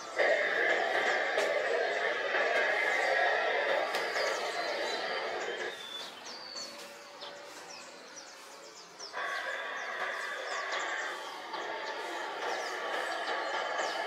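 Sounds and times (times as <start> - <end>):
background noise: 0.0 - 14.0
birds chirping: 0.0 - 14.0.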